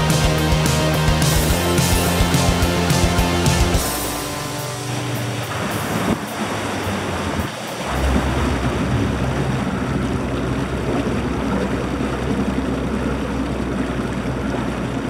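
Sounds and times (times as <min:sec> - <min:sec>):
outboard engine drone: 0:00.0 - 0:15.0
water rushing along hull: 0:00.0 - 0:15.0.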